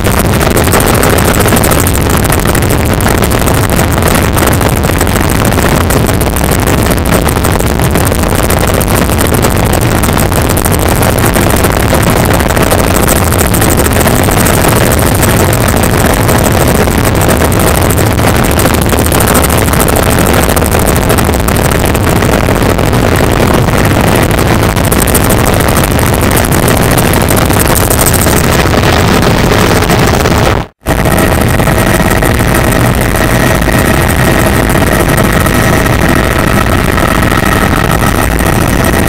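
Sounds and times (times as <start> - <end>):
helicopter engine and rotor noise: 0.0 - 39.0.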